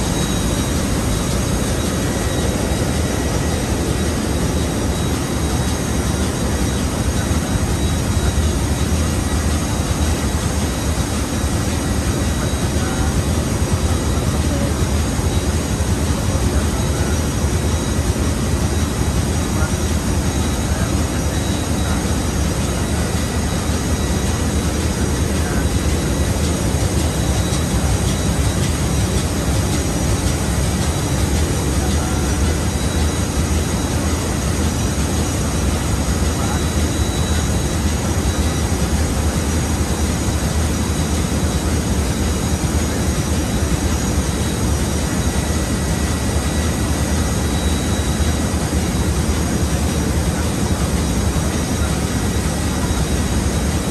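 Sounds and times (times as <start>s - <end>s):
faint steady whines: 0.0s - 53.9s
loud machinery drone: 0.0s - 53.9s.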